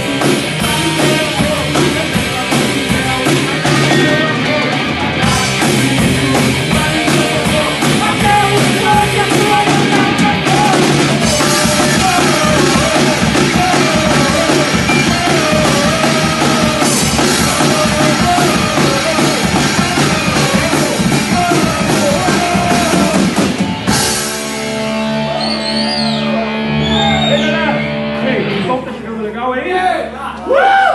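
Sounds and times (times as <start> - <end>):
punk rock song: 0.0 - 30.9.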